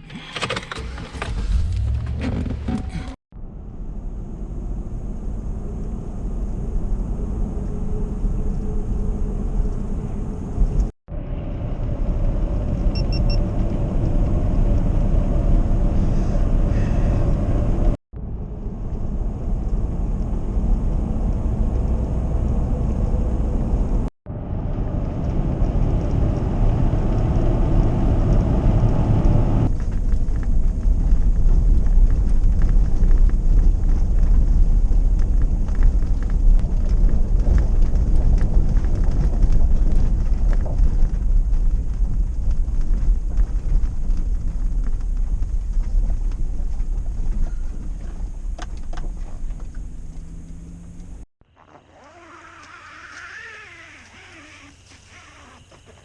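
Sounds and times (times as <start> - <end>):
truck road and engine rumble: 0.0 - 56.0.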